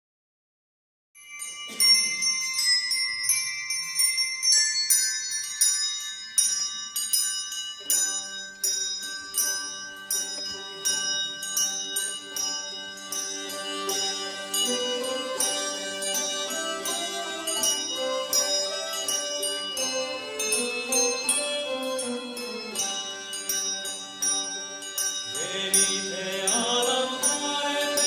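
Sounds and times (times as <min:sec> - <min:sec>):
tuned bells melody: 0:01.2 - 0:28.0.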